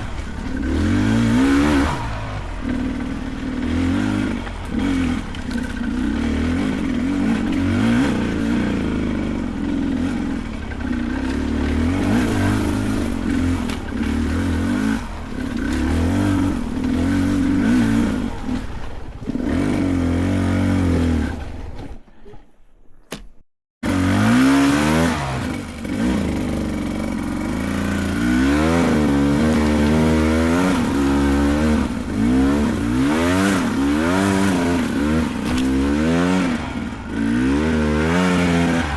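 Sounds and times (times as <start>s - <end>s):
dirt bike engine revving: 0.0s - 21.9s, 23.8s - 38.9s.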